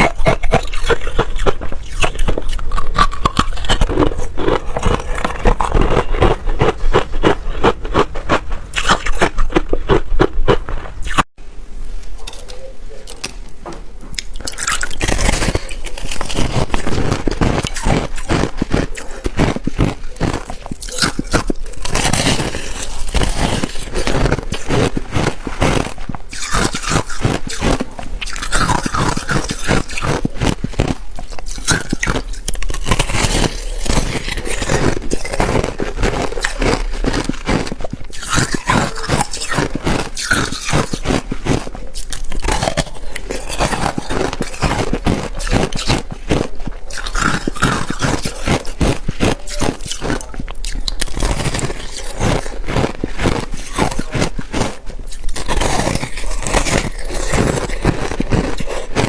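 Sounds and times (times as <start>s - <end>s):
frost being chewed: 0.0s - 11.3s, 12.0s - 59.0s.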